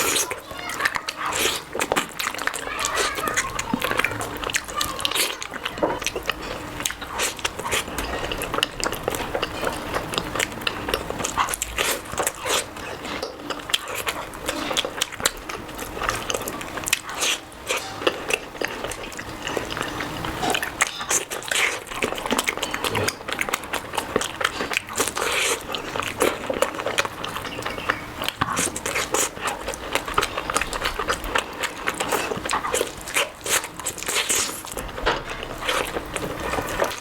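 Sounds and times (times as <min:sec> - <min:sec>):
wet chewing and lip-smacking: 0:00.0 - 0:37.0.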